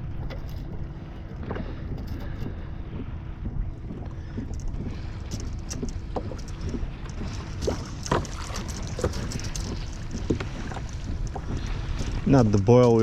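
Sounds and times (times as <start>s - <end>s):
wind rumble on microphone: 0.0s - 13.0s
water splashing against kayak hull: 0.1s - 13.0s.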